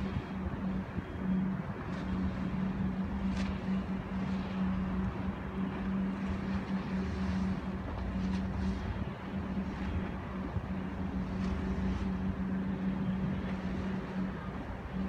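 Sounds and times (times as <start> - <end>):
ferry diesel engines droning: 0.0 - 15.0.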